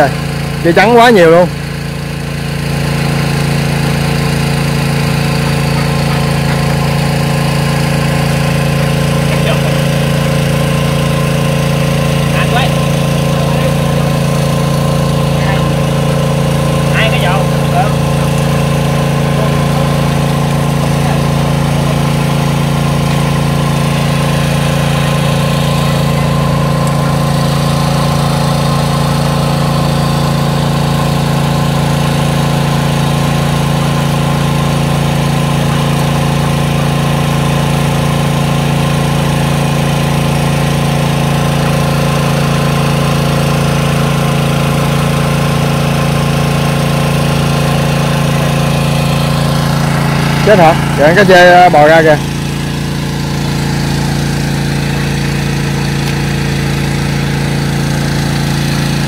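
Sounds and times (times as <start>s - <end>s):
engine-driven water pump running: 0.0s - 59.0s.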